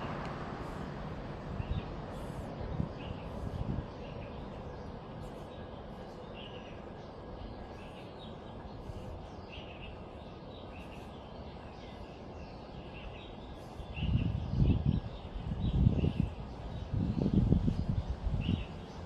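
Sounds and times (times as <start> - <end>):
small birds chirping: 0.0 - 19.0
steady background hum: 0.0 - 19.0.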